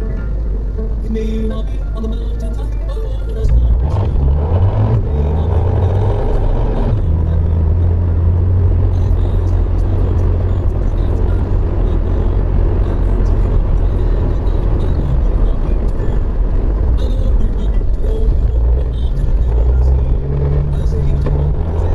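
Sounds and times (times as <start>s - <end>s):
car engine and tyres rumbling: 0.0s - 21.9s.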